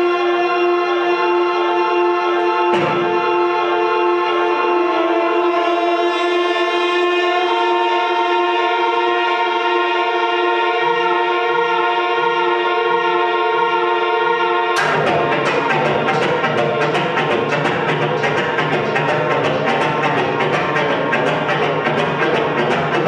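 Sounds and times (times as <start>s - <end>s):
loud dense guitar drone: 0.0s - 23.0s.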